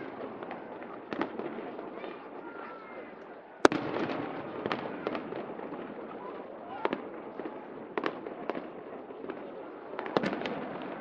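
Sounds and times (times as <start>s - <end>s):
crowd noise: 0.0s - 11.0s
fireworks bangs: 0.0s - 11.0s.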